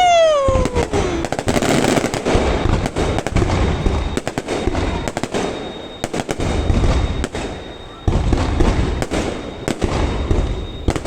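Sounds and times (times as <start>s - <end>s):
fireworks bangs and crackling: 0.0s - 11.0s
fireworks deep booms: 0.0s - 11.0s.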